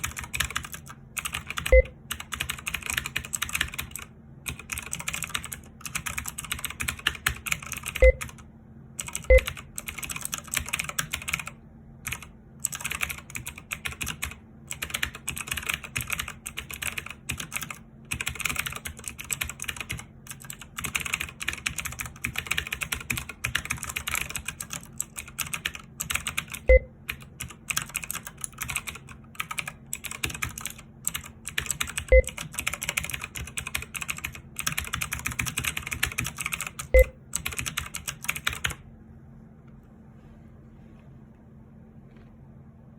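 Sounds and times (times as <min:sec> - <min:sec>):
fast keyboard typing: 0:00.0 - 0:38.8.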